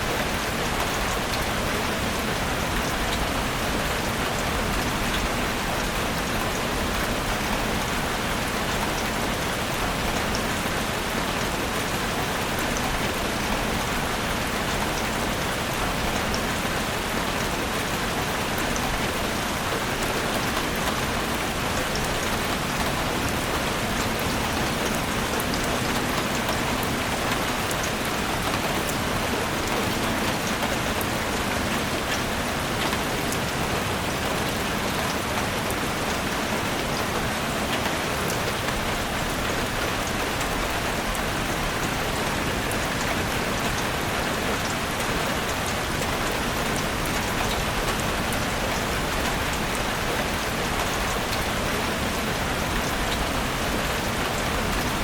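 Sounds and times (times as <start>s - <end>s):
rain on vegetation: 0.0s - 55.0s.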